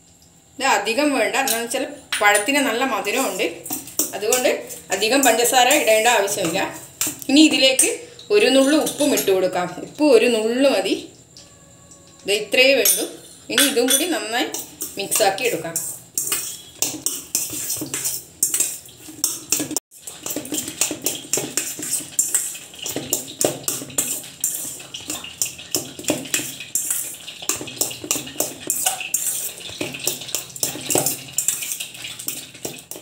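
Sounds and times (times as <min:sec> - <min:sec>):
steel bowl clattering on counter: 0:01.4 - 0:09.7, 0:12.8 - 0:33.0.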